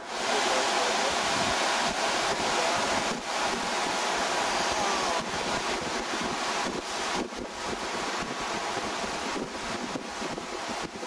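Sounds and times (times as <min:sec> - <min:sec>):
sea surf breaking: 0:00.0 - 0:11.0.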